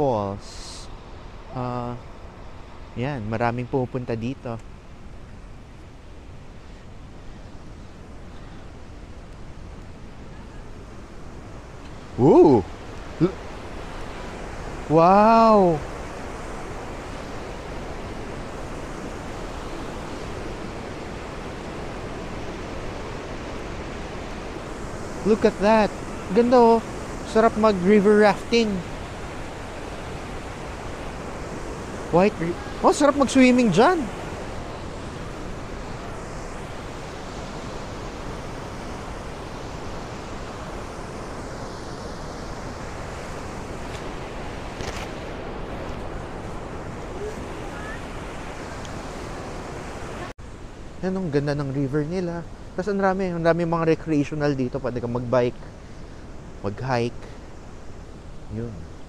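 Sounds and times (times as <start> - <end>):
white water rushing: 8.0 - 59.0.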